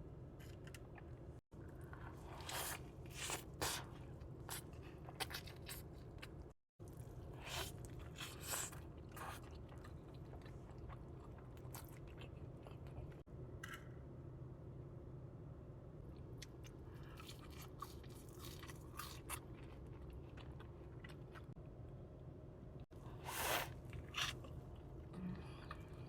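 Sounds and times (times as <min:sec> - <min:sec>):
chewing and crunching food: 0:00.4 - 0:13.3, 0:16.1 - 0:21.6, 0:22.9 - 0:26.0.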